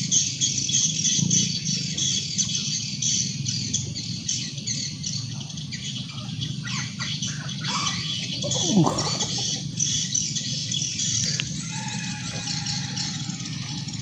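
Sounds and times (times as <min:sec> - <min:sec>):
birds and insects chirping: 0:00.0 - 0:14.0.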